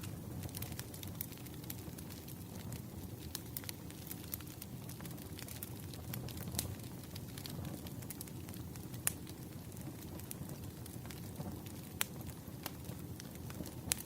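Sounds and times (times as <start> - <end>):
flames rumbling: 0.0 - 14.0
wood crackling and popping: 0.0 - 14.0.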